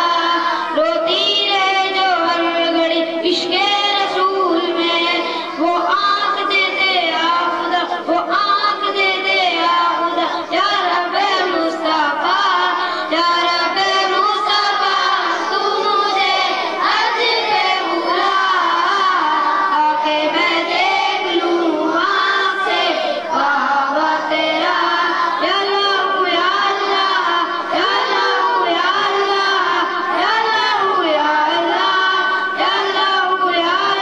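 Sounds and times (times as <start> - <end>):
boy singing into a microphone: 0.0 - 34.0.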